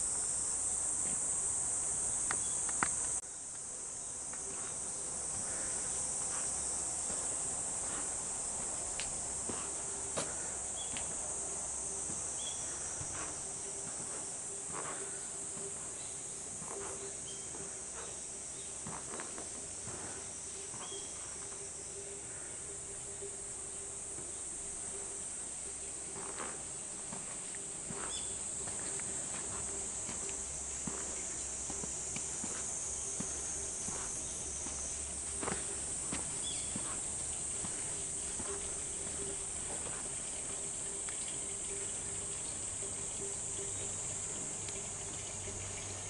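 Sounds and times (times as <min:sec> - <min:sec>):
insects chorus: 0:00.0 - 0:46.0.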